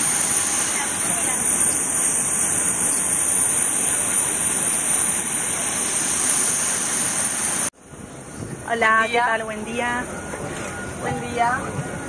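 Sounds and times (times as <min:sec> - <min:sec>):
jet turbine roar and whine: 0:00.0 - 0:12.0.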